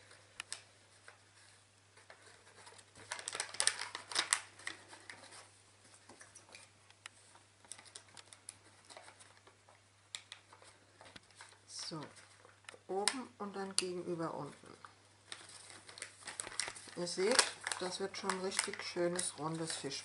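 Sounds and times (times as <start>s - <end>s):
paper rustling: 0.0s - 20.0s.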